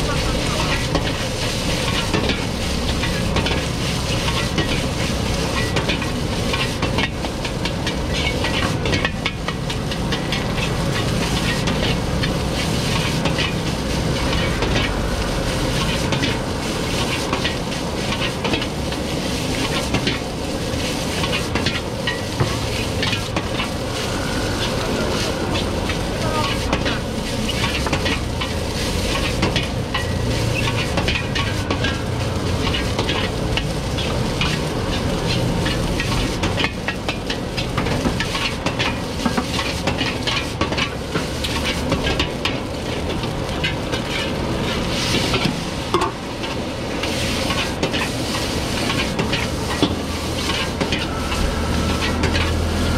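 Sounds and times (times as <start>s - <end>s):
metal ladle scraping a wok: 0.0s - 52.9s
rice sizzling in a wok: 0.0s - 52.9s.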